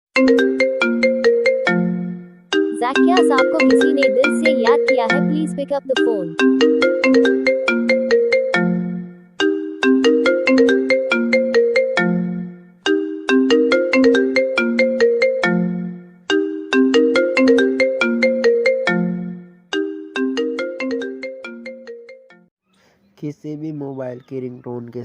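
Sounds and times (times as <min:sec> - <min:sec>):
mobile phone ringtone melody: 0:00.2 - 0:22.5.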